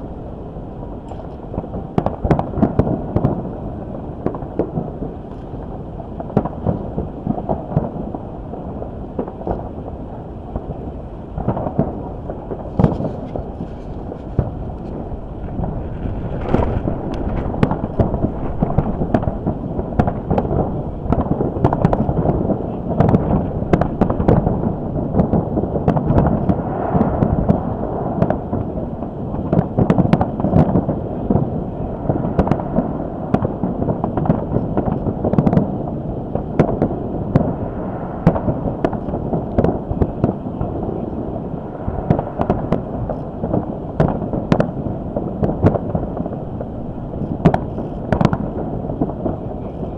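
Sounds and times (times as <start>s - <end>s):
wind buffeting microphone: 0.0s - 49.9s
fireworks booming: 0.8s - 49.9s
fireworks cracks and pops: 1.0s - 37.6s, 38.2s - 49.9s.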